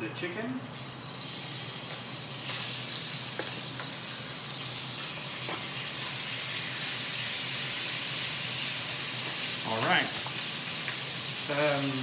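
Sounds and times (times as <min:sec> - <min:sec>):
chicken sizzling in oil: 0:00.7 - 0:12.0.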